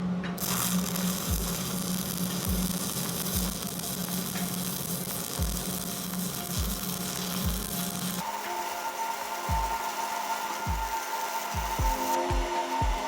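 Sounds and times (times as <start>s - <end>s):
welding arc crackling sizzle: 0.3s - 13.0s.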